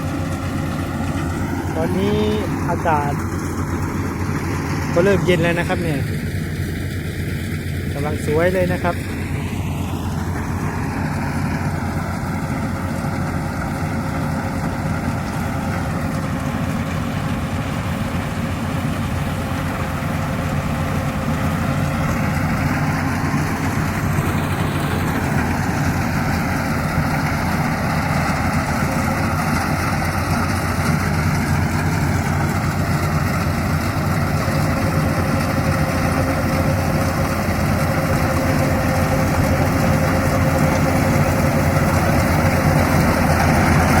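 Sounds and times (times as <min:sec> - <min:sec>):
combine harvester engine droning: 0:00.0 - 0:44.0.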